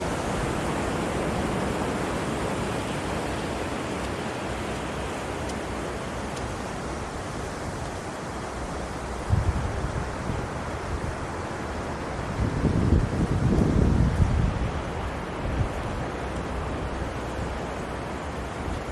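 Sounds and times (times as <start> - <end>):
sea surf washing on beach: 0.0 - 18.9.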